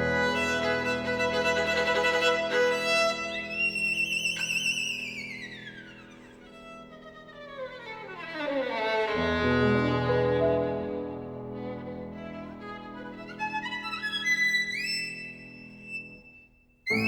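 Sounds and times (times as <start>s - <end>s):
violin glissando: 0.0s - 16.3s.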